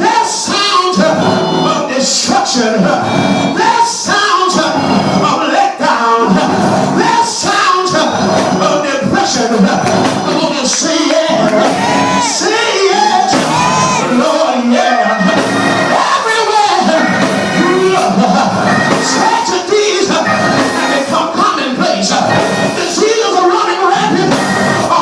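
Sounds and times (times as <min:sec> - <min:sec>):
loud church music: 0:00.0 - 0:25.0
many voices singing and shouting: 0:00.0 - 0:25.0.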